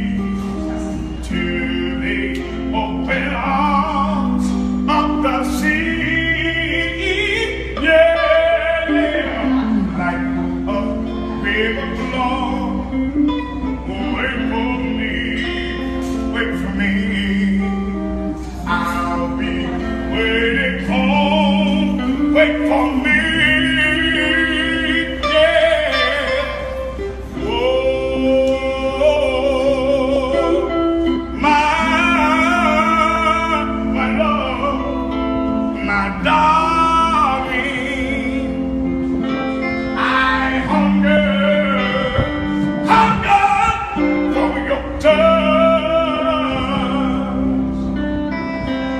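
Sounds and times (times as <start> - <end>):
instrumental backing music: 0.0 - 48.9
man singing with vibrato: 0.0 - 48.9.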